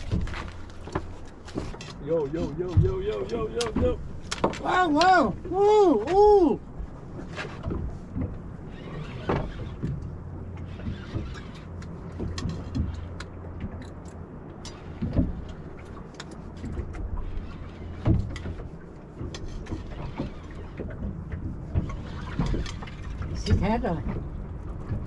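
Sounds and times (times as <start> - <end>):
boat engine idling: 0.0 - 25.0.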